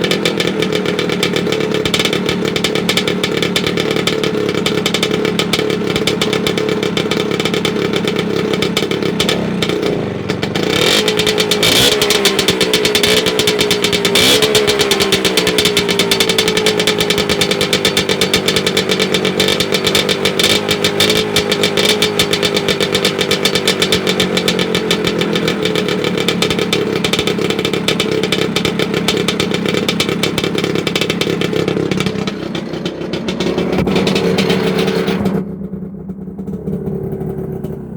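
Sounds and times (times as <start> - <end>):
scooter two-stroke engine revving: 0.0 - 37.9.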